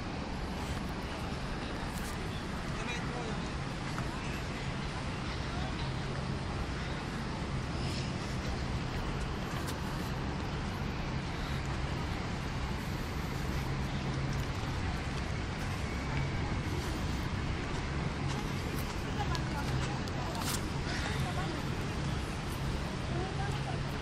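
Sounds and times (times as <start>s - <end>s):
faint crowd sounds: 0.0s - 24.0s.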